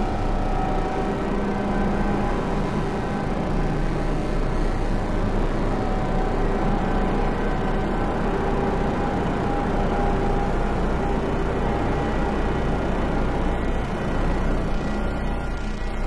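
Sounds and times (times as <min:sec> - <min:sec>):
electronic noise drone: 0:00.0 - 0:16.0.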